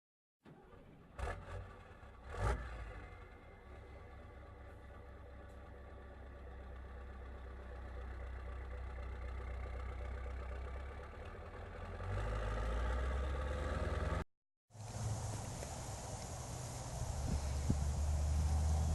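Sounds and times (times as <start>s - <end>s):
diesel truck engine running: 0.6s - 14.2s, 14.8s - 18.9s.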